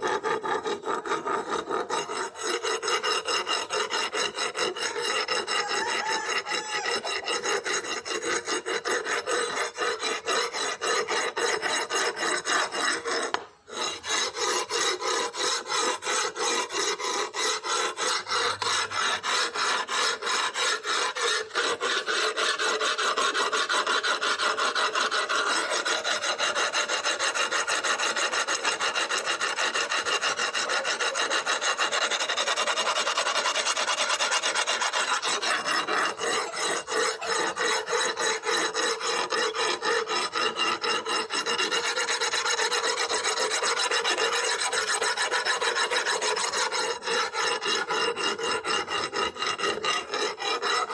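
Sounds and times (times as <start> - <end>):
hand filing rasping strokes: 0.0 - 50.9.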